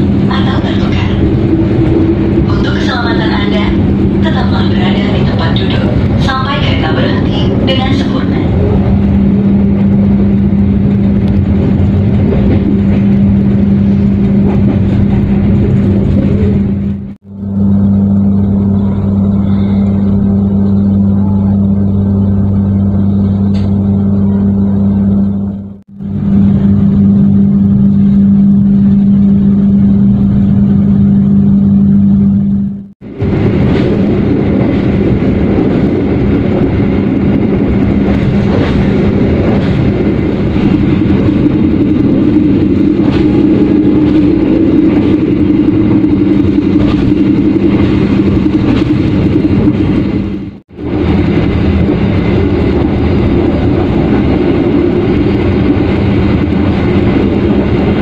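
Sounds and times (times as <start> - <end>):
constant low hum: 0.0 - 58.0
train running rumble: 0.0 - 58.0.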